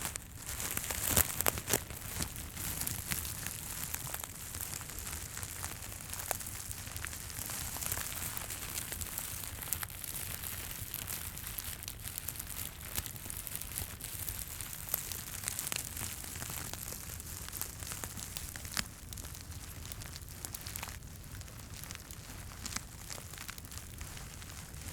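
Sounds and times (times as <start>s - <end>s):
crackle of fire: 0.0s - 24.9s
crinkling and rustling: 0.0s - 24.9s.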